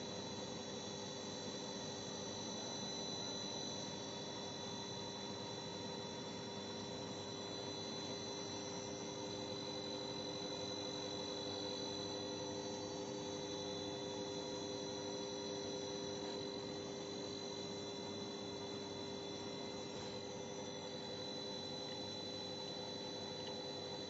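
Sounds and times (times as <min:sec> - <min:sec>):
machinery hum with whining tones: 0:00.0 - 0:24.0.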